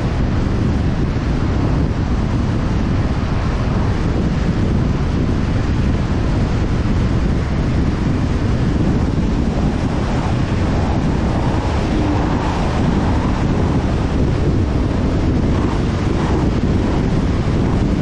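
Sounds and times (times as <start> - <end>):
car road noise: 0.0 - 18.0
wind buffeting microphone: 0.0 - 18.0.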